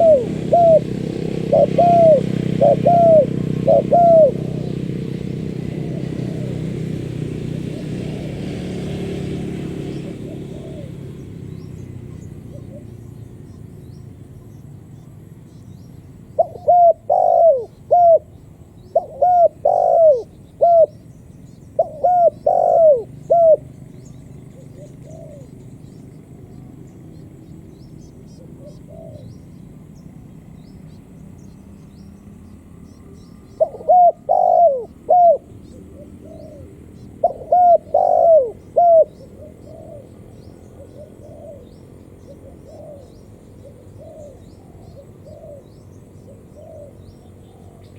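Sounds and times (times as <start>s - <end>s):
dove cooing: 0.0s - 14.5s, 16.0s - 21.1s, 21.7s - 30.6s, 33.5s - 47.9s.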